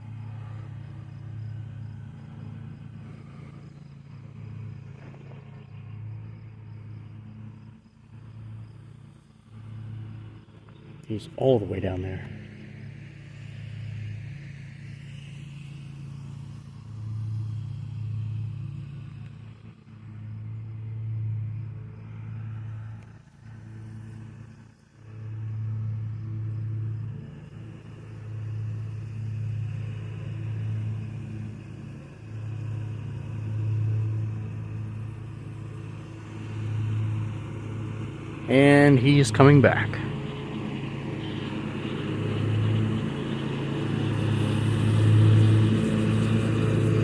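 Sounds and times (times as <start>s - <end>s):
distant riding mower engine: 0.0s - 47.0s.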